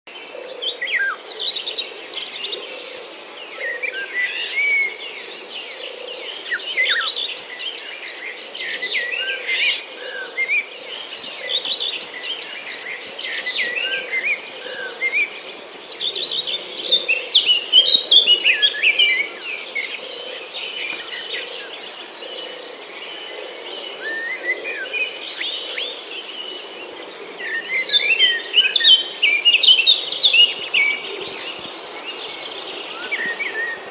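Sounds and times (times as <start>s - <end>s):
birds chirping and trilling: 0.1s - 33.9s
high insect drone: 0.1s - 33.9s.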